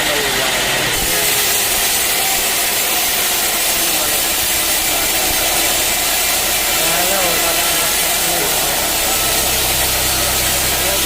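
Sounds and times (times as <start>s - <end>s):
faint voices: 0.0s - 11.0s
sawmill machinery running: 0.0s - 11.0s.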